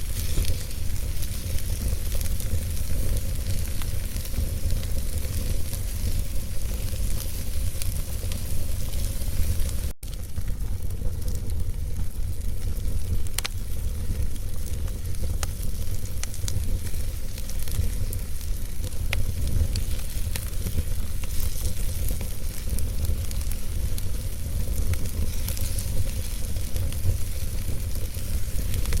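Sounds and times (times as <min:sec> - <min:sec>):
fire rumble and hiss: 0:00.0 - 0:29.0
logs crackling and popping: 0:00.0 - 0:29.0.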